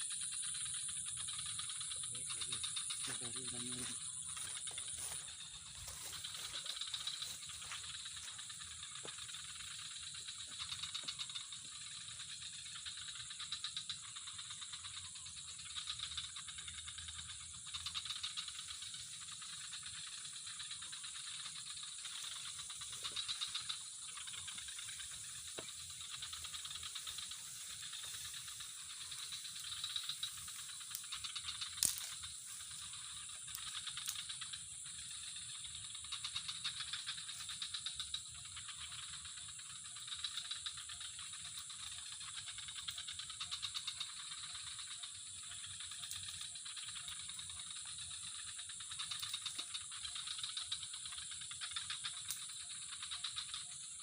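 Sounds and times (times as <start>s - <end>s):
high-pitched insect trill: 0.0s - 54.0s
pulsing insect chirring: 0.0s - 54.0s.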